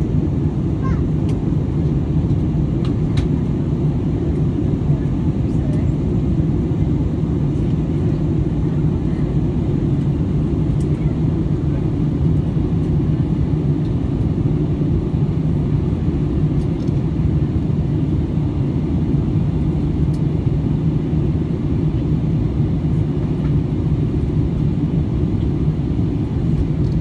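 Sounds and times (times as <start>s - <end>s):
airplane cabin rumble: 0.0s - 27.0s
steady hum: 0.0s - 27.0s.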